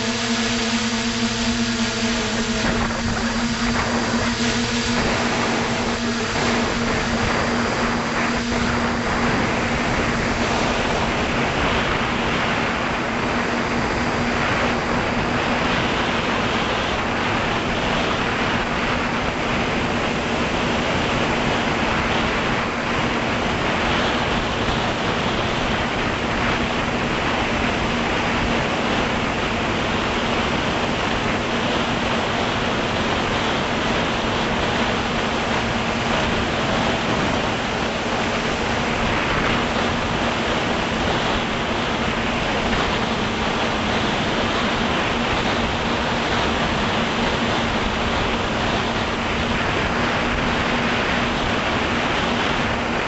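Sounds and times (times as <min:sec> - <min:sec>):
drone motors humming: 0:00.0 - 0:53.0
wind noise: 0:00.0 - 0:53.0.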